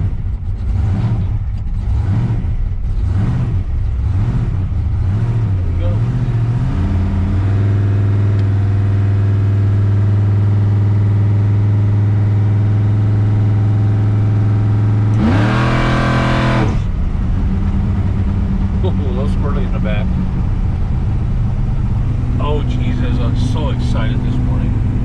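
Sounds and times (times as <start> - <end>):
car engine running and revving: 0.0 - 25.0.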